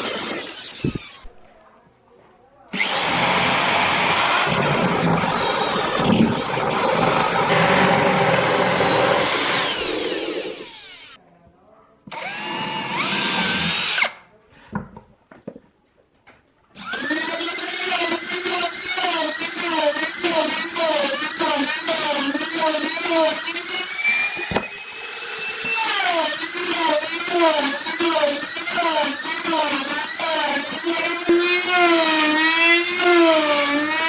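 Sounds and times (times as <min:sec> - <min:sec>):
power tool running: 0:00.0 - 0:01.3, 0:02.8 - 0:11.2, 0:12.1 - 0:14.2, 0:16.8 - 0:34.0.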